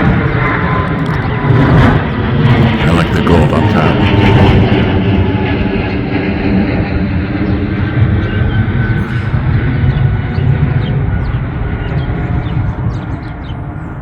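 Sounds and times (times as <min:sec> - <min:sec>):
jet airliner passing overhead: 0:00.0 - 0:14.0.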